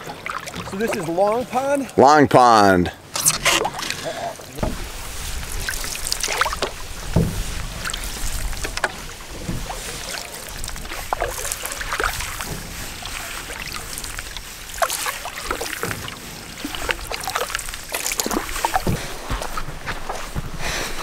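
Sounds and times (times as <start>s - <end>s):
canoe paddles splashing in water: 0.0s - 21.0s
water dripping from paddles: 0.0s - 21.0s.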